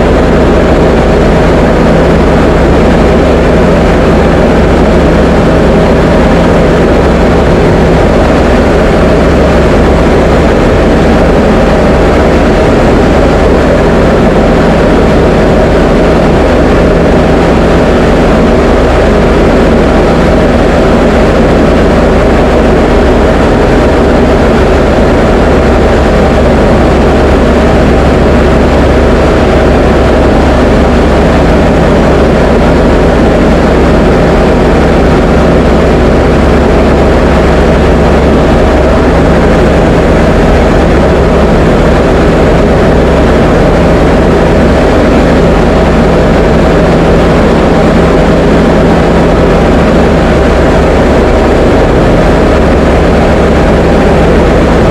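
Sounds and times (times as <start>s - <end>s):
light aircraft engine droning: 0.0s - 54.9s.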